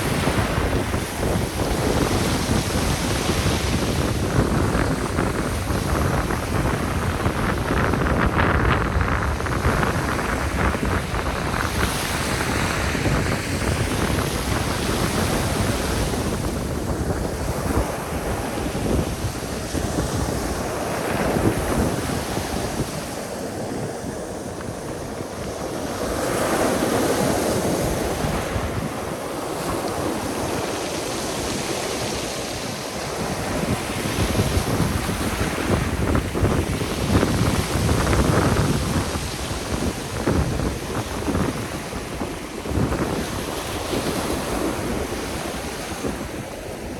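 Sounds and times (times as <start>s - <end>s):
surf washing onto shore: 0.0s - 46.9s
wind buffeting microphone: 0.0s - 46.9s.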